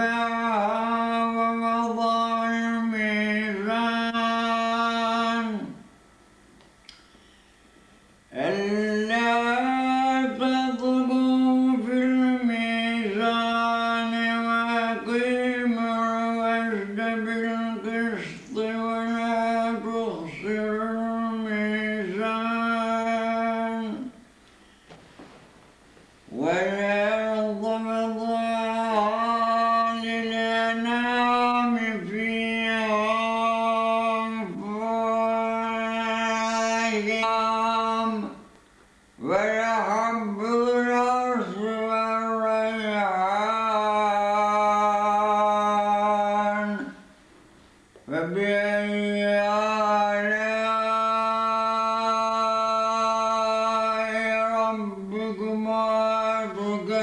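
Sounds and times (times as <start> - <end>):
man chanting melodically: 0.0 - 5.8, 8.3 - 24.2, 26.3 - 38.5, 39.2 - 47.0, 48.0 - 57.0.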